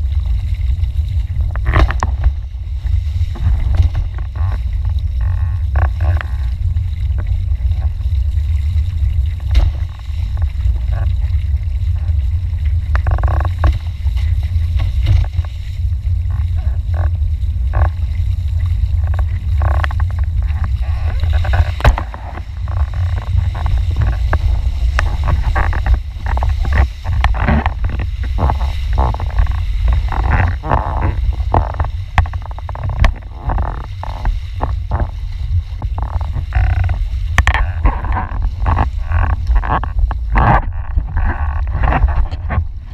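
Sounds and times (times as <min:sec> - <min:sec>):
heavy wind rumble on microphone: 0:00.0 - 0:42.9
water splashing against board: 0:00.0 - 0:42.9.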